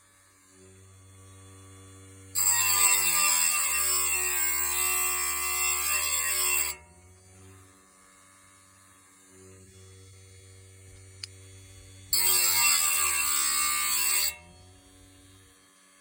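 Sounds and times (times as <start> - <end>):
saw sharpener grinding: 0.0 - 16.0.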